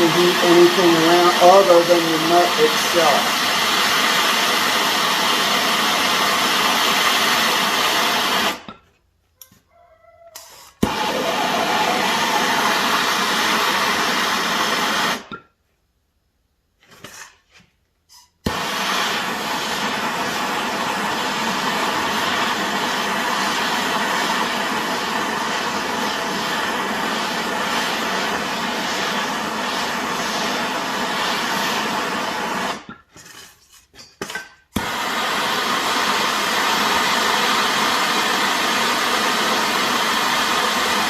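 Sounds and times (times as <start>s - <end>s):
gas torch roaring: 0.0s - 8.8s, 10.4s - 15.4s, 18.4s - 32.9s, 34.8s - 41.0s.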